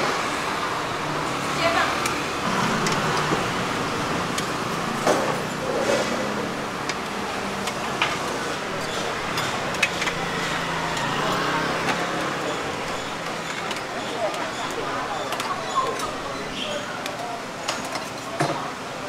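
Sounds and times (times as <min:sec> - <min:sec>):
street noise with passing traffic: 0:00.0 - 0:19.0.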